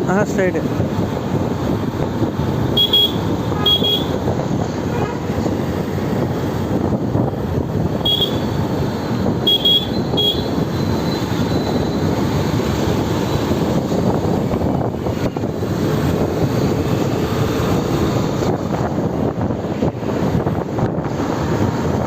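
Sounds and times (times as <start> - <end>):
traffic noise: 0.0 - 22.0
wind on microphone: 0.5 - 22.0.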